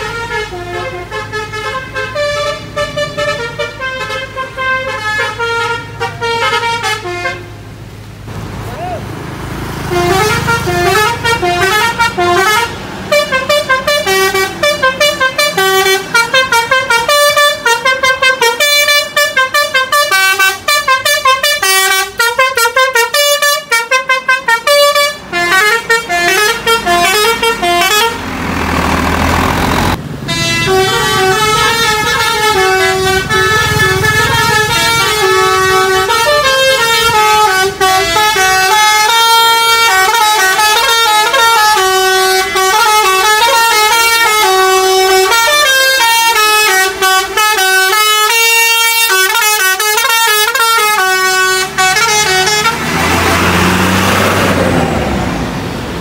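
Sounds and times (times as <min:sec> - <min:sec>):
multi-trumpet air horns playing melodies: 0:00.0 - 0:07.6, 0:09.8 - 0:28.3, 0:30.3 - 0:54.0
bus engine running: 0:00.0 - 0:56.0.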